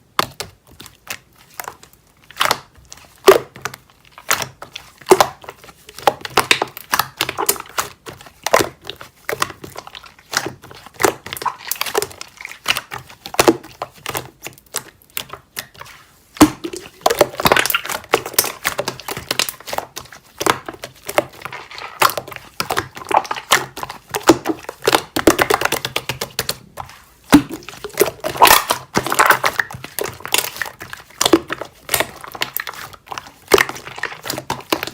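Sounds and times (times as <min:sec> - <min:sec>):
slime squishing with sticky pops: 0:00.0 - 0:34.9.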